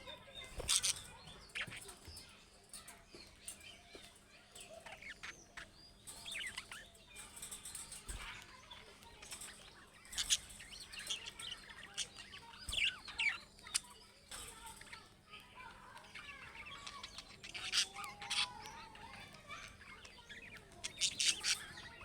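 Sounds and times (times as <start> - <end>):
budgerigars chirping and warbling: 0.0 - 22.0.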